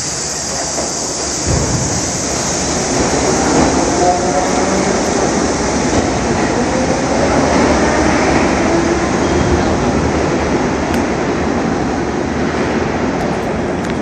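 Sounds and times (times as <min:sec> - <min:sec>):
subway train running on rails: 0:00.0 - 0:14.0.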